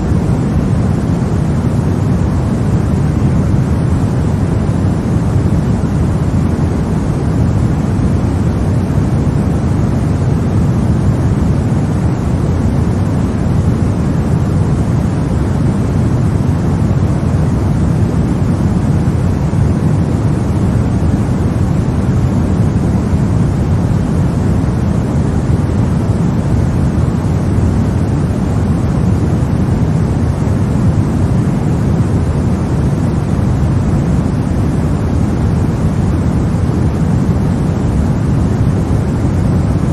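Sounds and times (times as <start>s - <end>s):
low white noise: 0.0s - 39.9s.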